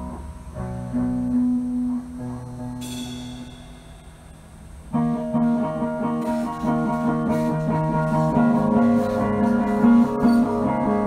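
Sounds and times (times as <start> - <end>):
guitar chords strummed: 0.0 - 11.0.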